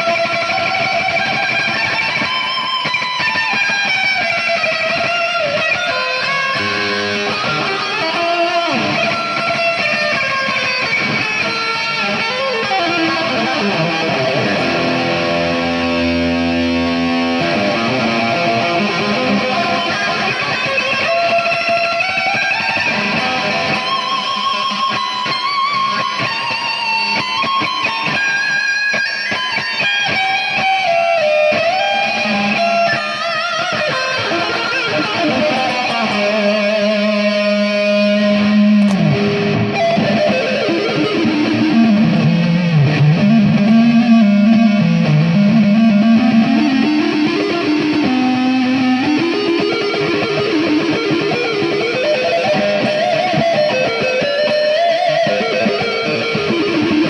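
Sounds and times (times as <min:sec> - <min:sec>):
electric guitar bending notes: 0:00.0 - 0:57.0.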